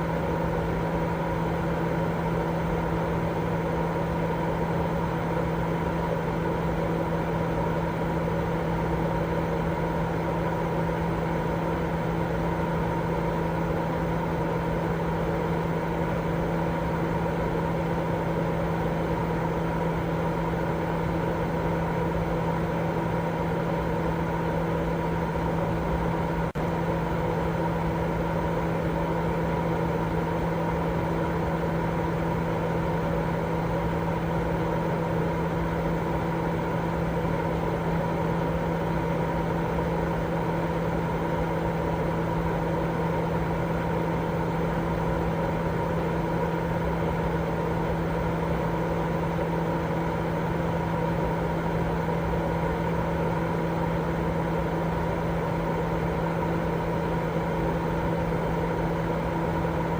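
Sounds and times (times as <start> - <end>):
white noise drone: 0.0 - 59.9.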